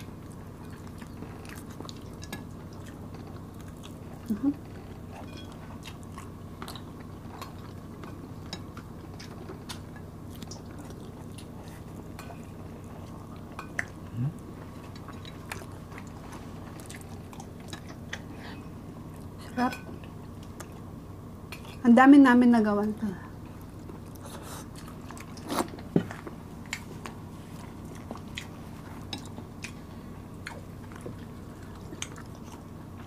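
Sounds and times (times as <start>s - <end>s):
chewing with lip smacks: 0.0s - 20.9s, 23.5s - 33.0s
steady low hum: 0.0s - 33.0s.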